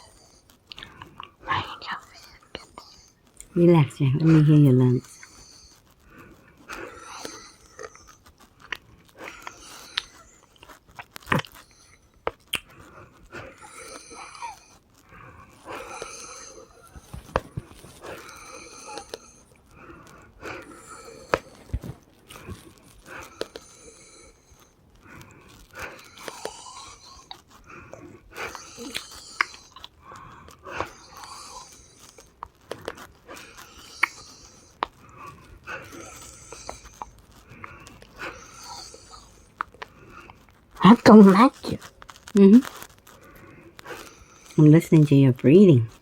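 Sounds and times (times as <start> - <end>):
laboured breathing: 0.0 - 3.5, 5.0 - 40.8, 41.5 - 44.6
sharp crackling clicks: 5.0 - 44.6.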